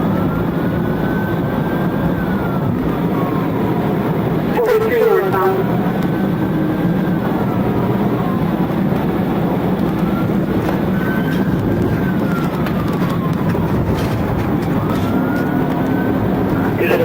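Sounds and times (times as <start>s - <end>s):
police siren wailing: 0.0s - 17.0s
vehicle engine and road noise: 0.0s - 17.0s.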